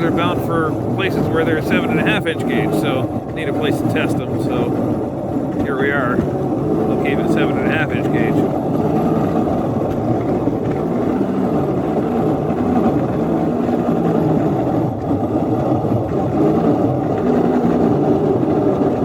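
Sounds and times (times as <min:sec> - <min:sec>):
small locomotive engine droning: 0:00.0 - 0:19.0.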